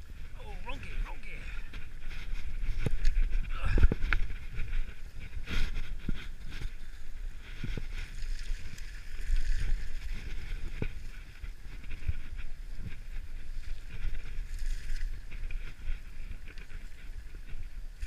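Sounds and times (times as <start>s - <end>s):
wind rumbling on microphone: 0.0s - 18.0s
bike knocking and rattling: 1.6s - 18.0s.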